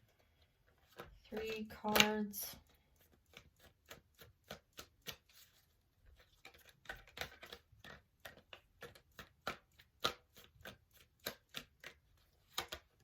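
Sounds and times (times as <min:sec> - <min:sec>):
cards being shuffled: 0:00.6 - 0:02.4, 0:03.0 - 0:13.0.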